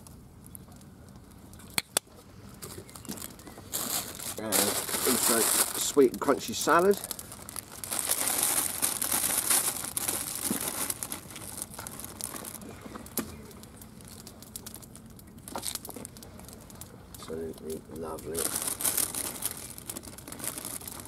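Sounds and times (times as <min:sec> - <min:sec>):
plastic packaging crinkling: 0:02.6 - 0:21.0.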